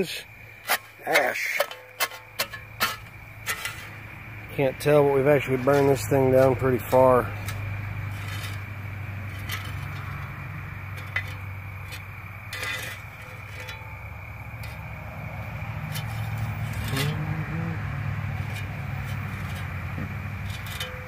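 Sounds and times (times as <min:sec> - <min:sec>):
shovel scraping in gravel: 0:00.5 - 0:04.1, 0:04.8 - 0:14.0, 0:15.8 - 0:17.4, 0:18.4 - 0:21.0.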